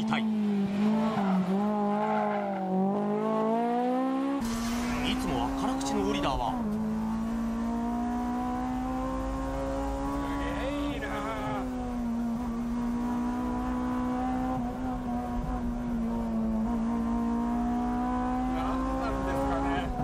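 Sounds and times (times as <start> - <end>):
car engine revving high: 0.0 - 20.0.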